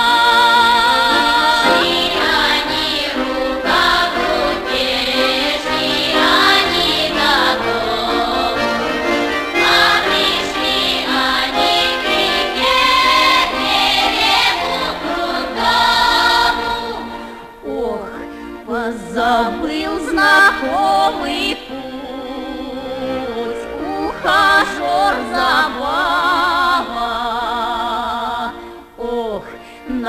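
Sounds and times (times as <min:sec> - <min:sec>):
women's choir singing: 0:00.0 - 0:29.4
button accordions playing: 0:00.0 - 0:30.0.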